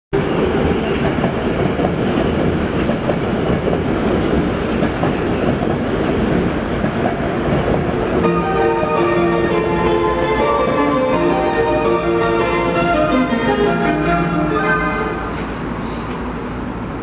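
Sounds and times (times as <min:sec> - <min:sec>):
train rumbling on rails: 0:00.2 - 0:17.0.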